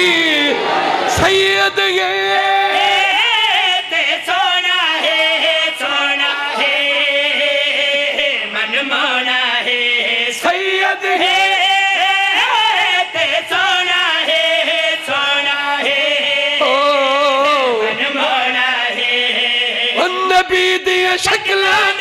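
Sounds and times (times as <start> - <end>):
men singing over loudspeakers: 0.0 - 22.0.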